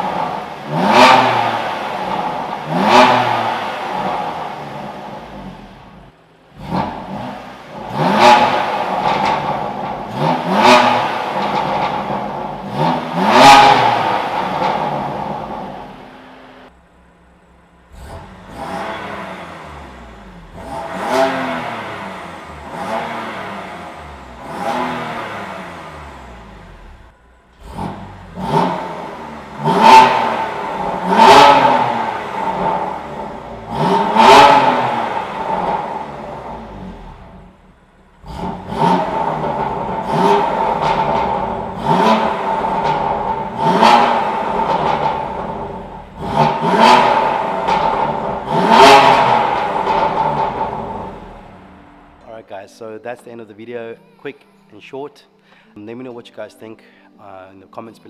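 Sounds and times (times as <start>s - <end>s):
car engine revving: 0.0s - 52.5s
exhaust cracks: 0.0s - 52.6s.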